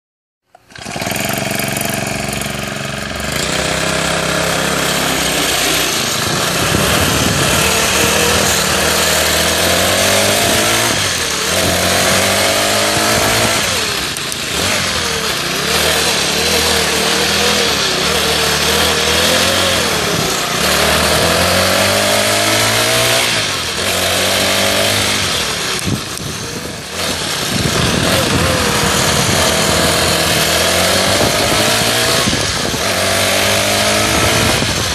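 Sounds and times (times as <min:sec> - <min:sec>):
go-kart engine revving: 0:00.5 - 0:34.9.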